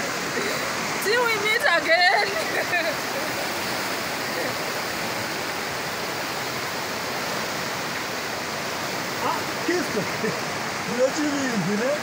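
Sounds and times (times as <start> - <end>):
heavy rain pouring: 0.0 - 12.0
runoff water flowing: 0.0 - 12.0.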